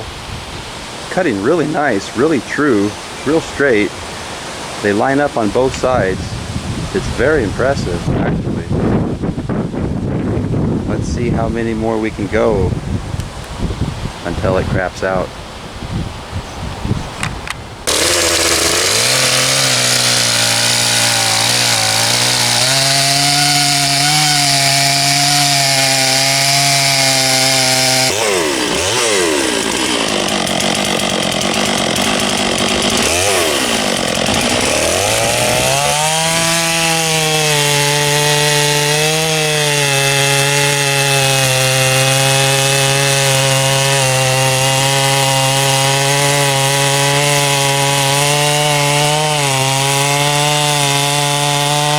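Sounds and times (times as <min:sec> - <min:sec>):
chainsaw cutting log: 0:00.7 - 0:06.3, 0:06.9 - 0:08.3, 0:17.2 - 0:51.9.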